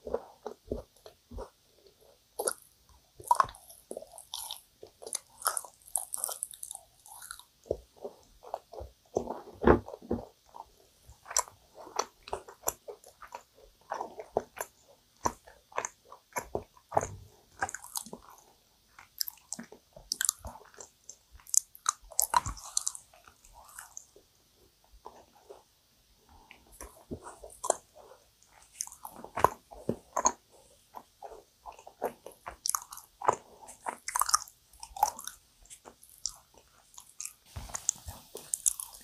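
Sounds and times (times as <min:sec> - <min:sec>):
chewing sticky cookie: 0:00.0 - 0:39.0.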